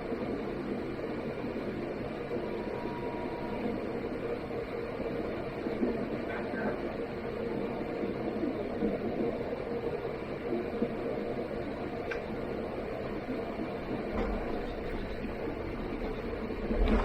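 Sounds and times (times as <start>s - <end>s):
airliner cabin engine noise: 0.0s - 17.0s.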